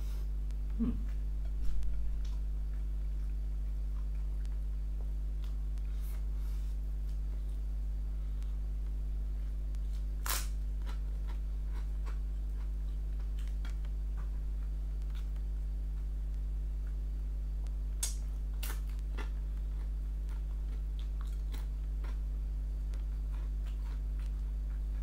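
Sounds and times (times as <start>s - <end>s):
steady low hum: 0.0s - 25.0s
papadum crunching and chewing: 0.5s - 25.0s.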